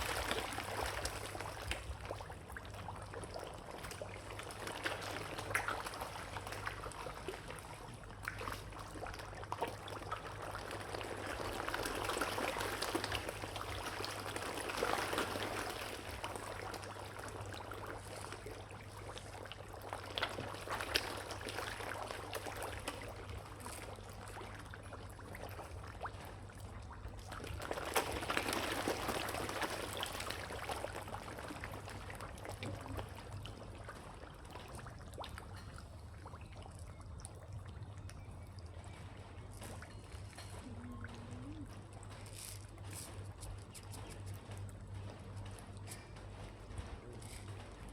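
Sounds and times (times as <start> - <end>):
water splashing and trickling: 0.0 - 47.9.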